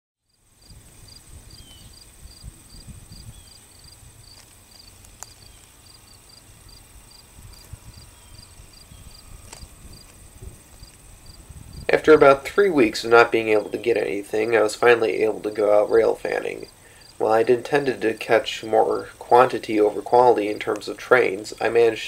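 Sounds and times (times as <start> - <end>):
crickets chirping: 0.3 - 22.0
high insect trill: 0.3 - 22.0.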